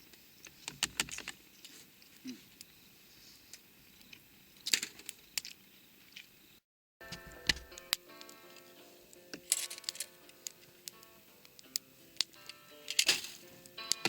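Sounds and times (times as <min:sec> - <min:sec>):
campfire crackling: 0:00.0 - 0:06.5, 0:07.1 - 0:14.0.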